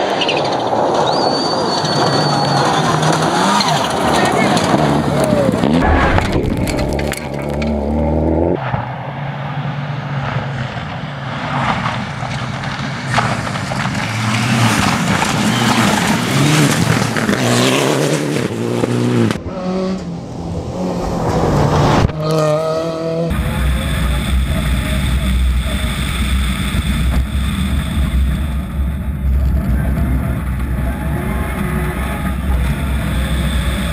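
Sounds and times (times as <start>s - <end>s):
rally car engines revving: 0.0s - 33.9s.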